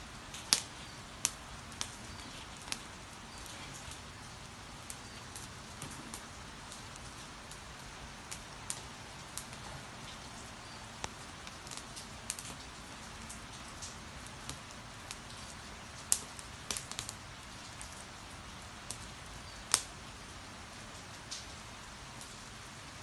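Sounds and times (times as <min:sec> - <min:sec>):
wood fire crackling and popping: 0:00.0 - 0:22.7
steady rain falling: 0:00.0 - 0:23.0.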